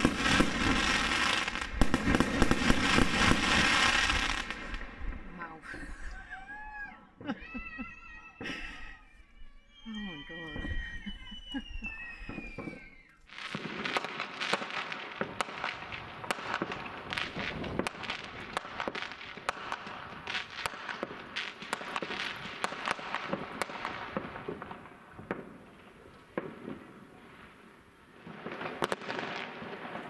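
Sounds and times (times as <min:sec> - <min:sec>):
fireworks crackling and banging: 0:00.0 - 0:30.0.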